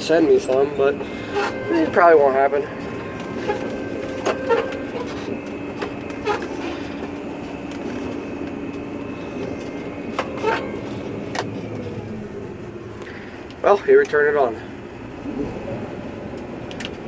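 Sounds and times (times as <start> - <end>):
combine harvester mechanical drone: 0.0 - 17.0.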